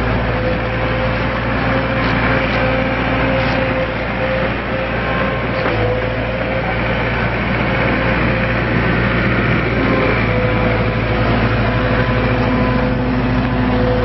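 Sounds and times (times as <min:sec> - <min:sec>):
diesel engine running: 0:00.0 - 0:14.0
steady mechanical whine: 0:00.0 - 0:14.0.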